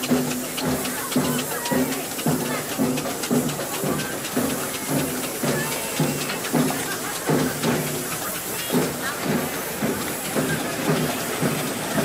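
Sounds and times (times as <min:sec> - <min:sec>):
steam engine exhaust chuffing: 0:00.0 - 0:12.0
steam hissing: 0:00.0 - 0:12.0.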